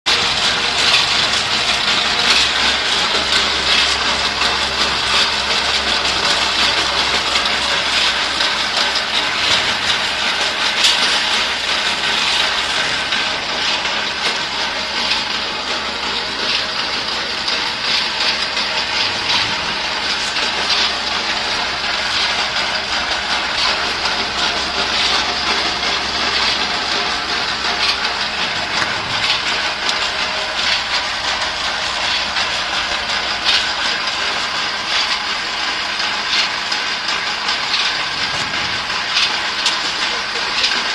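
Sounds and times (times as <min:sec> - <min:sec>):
machine humming and rattling: 0:00.1 - 0:40.9.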